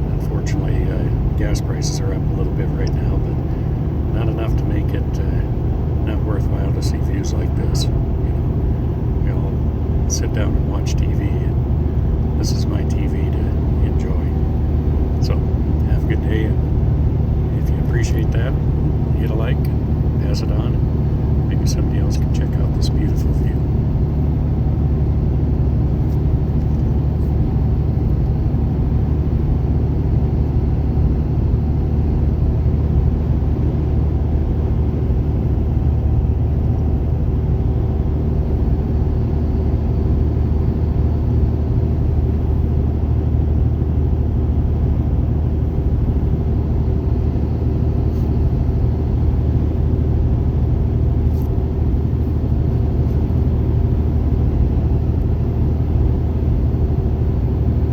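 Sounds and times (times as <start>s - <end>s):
car engine and tyre drone: 0.0s - 57.9s.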